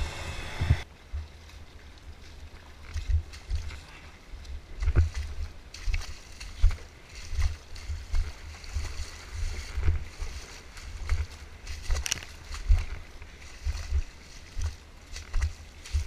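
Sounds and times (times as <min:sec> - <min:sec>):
footsteps splashing in stream: 0:00.8 - 0:16.0.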